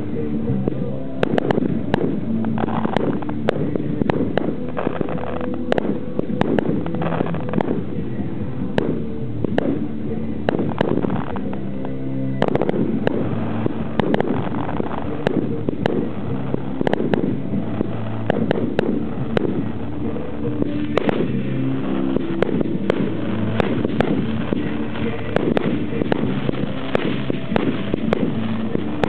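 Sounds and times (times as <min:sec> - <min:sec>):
fireworks bursting with bangs: 0:00.0 - 0:29.0
low droning background: 0:00.0 - 0:29.0.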